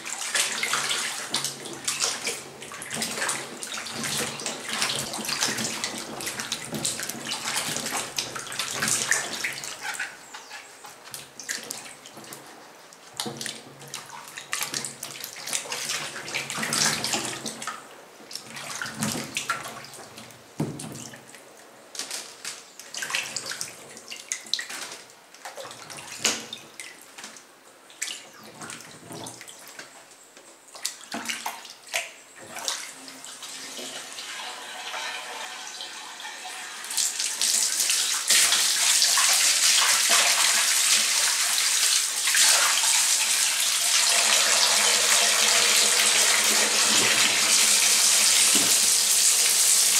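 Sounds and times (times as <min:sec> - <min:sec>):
water sloshing in sink: 0:00.0 - 0:30.0, 0:30.7 - 0:49.9.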